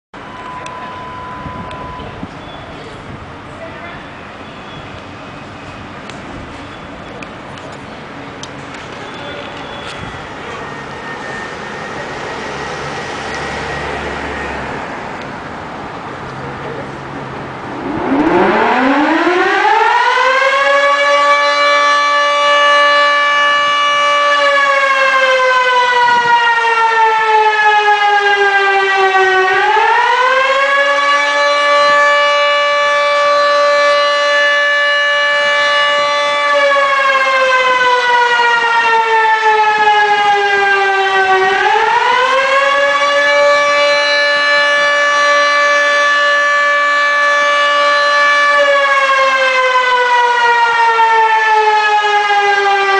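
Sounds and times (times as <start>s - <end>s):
siren wailing: 0.2s - 3.0s, 9.2s - 15.2s, 17.2s - 52.9s.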